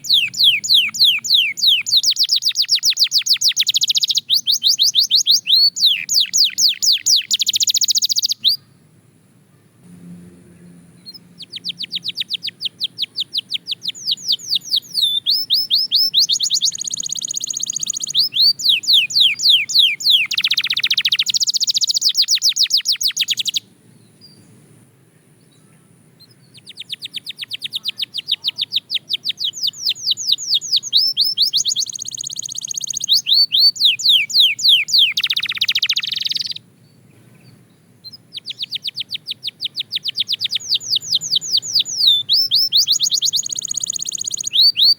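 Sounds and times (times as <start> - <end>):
canary singing: 0.0 - 8.8, 10.5 - 24.6, 25.5 - 44.9.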